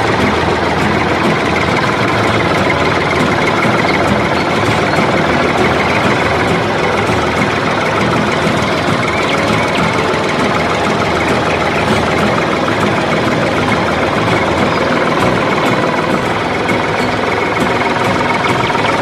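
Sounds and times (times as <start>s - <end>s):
mini tractor engine chugging: 0.0s - 19.0s.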